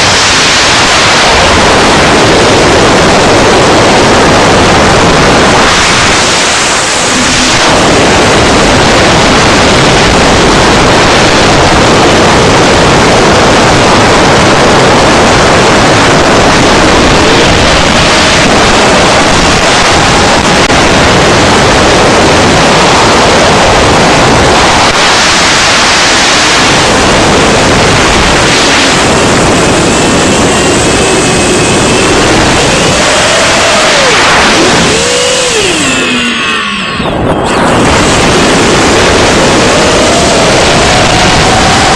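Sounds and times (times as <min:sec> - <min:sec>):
drone motors whining: 0:00.0 - 0:13.0, 0:15.2 - 0:41.9
wind rushing on microphone: 0:00.0 - 0:41.9.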